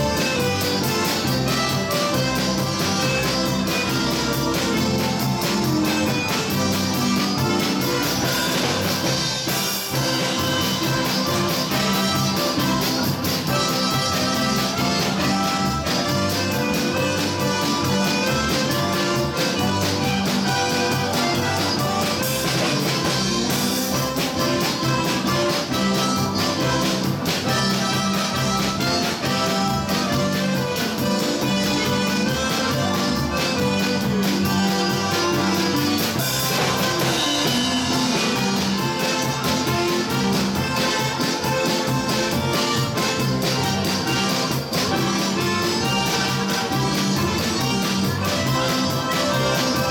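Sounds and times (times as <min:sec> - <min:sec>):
accordions: 0:00.0 - 0:49.9
polka band playing: 0:00.0 - 0:49.9
steady drum beat: 0:00.0 - 0:49.9.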